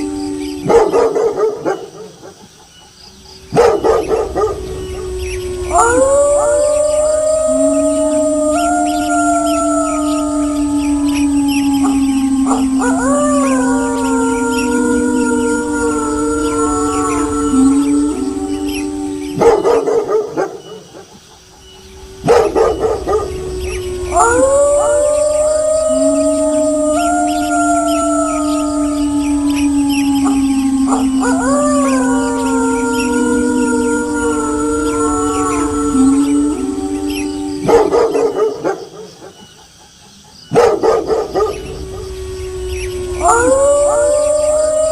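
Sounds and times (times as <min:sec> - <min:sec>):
wolves howling: 0:00.0 - 0:02.5, 0:03.1 - 0:39.8, 0:40.5 - 0:44.9.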